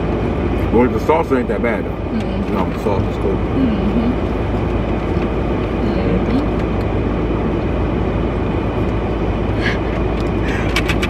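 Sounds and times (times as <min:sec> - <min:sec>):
car engine rumble from cabin: 0:00.0 - 0:11.0.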